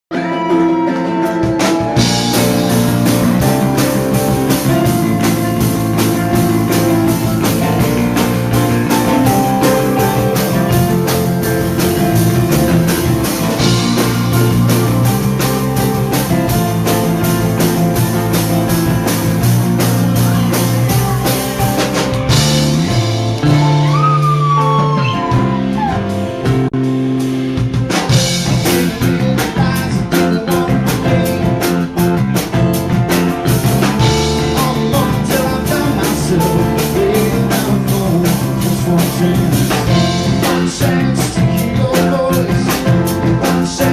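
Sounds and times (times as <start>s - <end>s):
drum kit beat: 0.1s - 43.9s
rock band playing: 0.1s - 43.9s.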